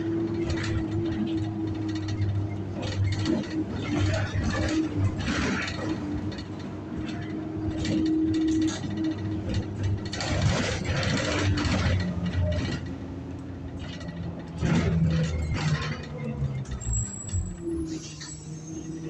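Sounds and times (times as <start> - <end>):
bus engine hum: 0.0 - 19.0.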